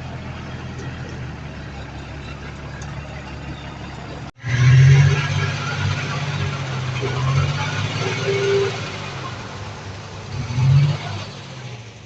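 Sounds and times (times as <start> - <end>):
heavy diesel machinery humming: 0.0 - 12.0.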